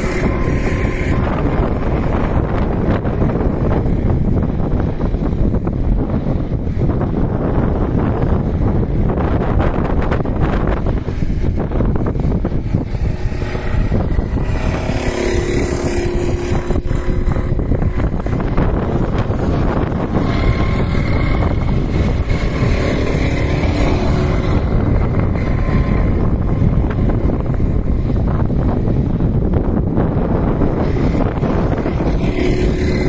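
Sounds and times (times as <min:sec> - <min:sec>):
kart engines passing: 0:00.0 - 0:33.0
wind buffeting microphone: 0:00.0 - 0:33.0.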